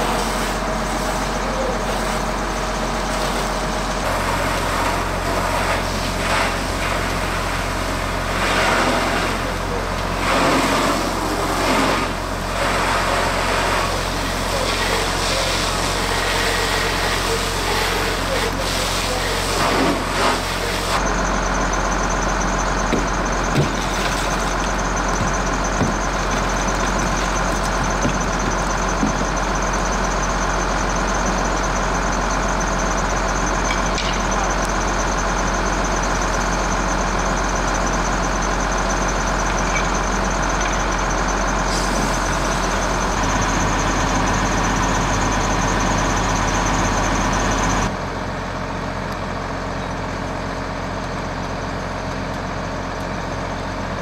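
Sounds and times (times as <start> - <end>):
fire engine droning: 0.0 - 54.0.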